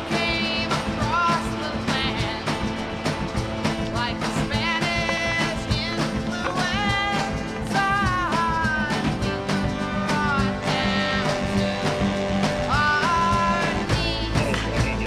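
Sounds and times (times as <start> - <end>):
music with sliding lead notes: 0.0 - 15.0.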